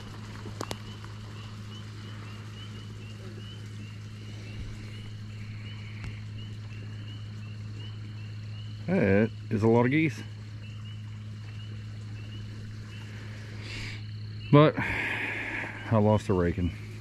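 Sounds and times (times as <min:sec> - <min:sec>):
frogs peeping: 0:00.0 - 0:17.0
low hum: 0:00.0 - 0:17.0.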